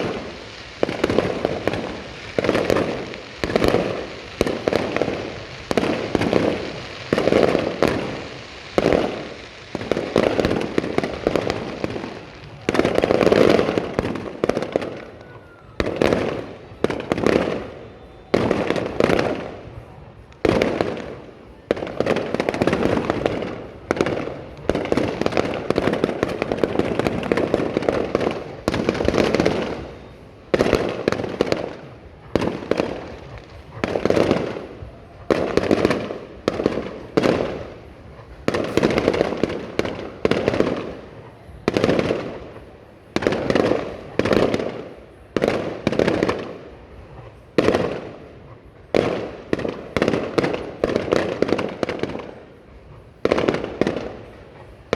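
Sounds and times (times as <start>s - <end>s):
fireworks bursting: 0.0s - 54.9s.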